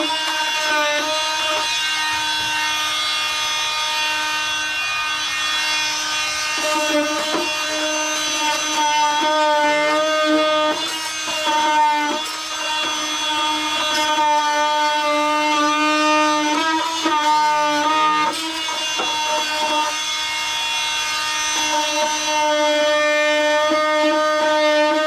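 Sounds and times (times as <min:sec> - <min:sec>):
oscillating multi-tool humming: 0:00.0 - 0:25.0.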